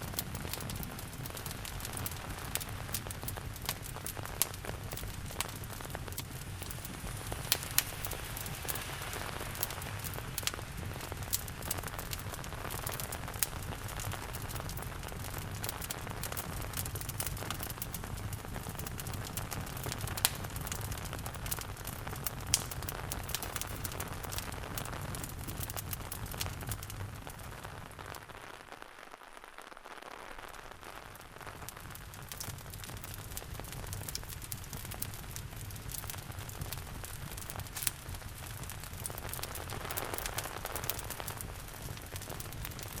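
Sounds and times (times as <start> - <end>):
sharp fire pops: 0.0 - 43.0
steady rain: 0.0 - 43.0
wood fire crackling: 0.0 - 43.0.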